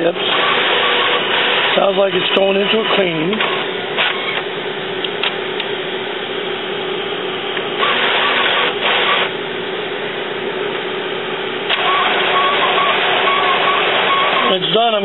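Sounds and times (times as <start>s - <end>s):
printer mechanism humming: 0.0s - 15.0s
printer whirring: 0.0s - 15.0s.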